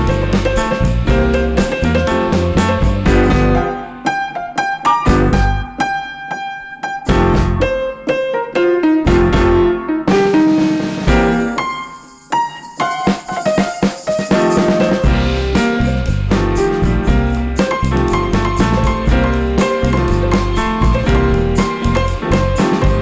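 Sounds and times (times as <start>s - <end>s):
piano background music: 0.0s - 23.0s.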